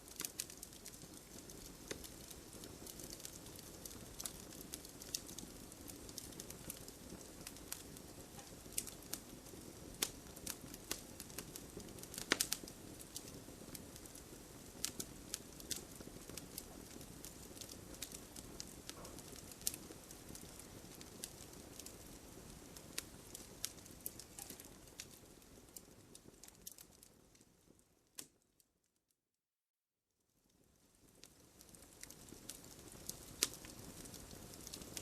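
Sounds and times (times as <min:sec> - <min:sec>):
campfire crackling and popping: 0:00.0 - 0:28.4, 0:30.6 - 0:35.0.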